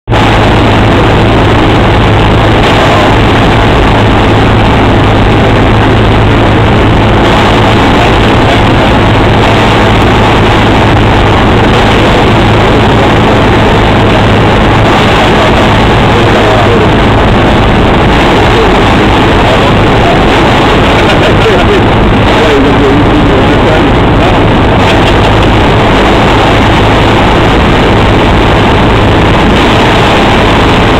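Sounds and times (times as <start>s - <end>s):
propeller plane engine droning: 0.0s - 30.9s
rushing air noise: 0.1s - 30.9s.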